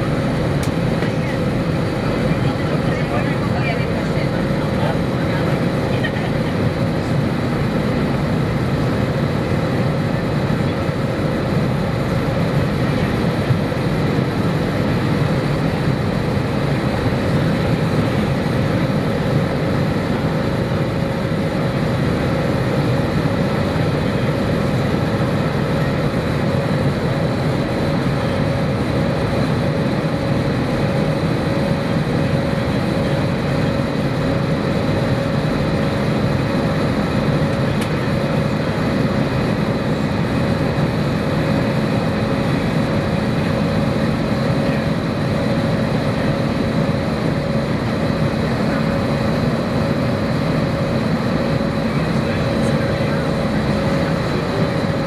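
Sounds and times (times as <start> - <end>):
faint steady whine: 0.0 - 55.0
jet engine drone in cabin: 0.0 - 55.0.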